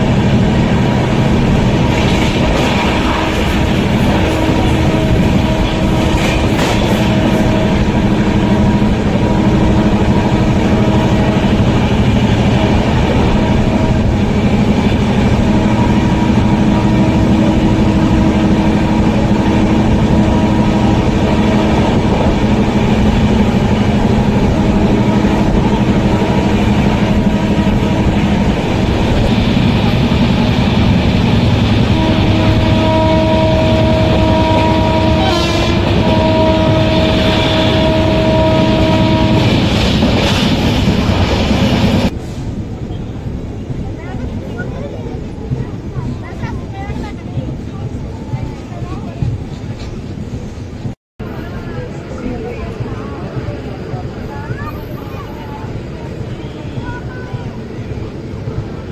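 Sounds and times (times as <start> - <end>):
electric locomotive passing: 0.0 - 58.9
train wheels rumbling on rails: 0.0 - 58.9.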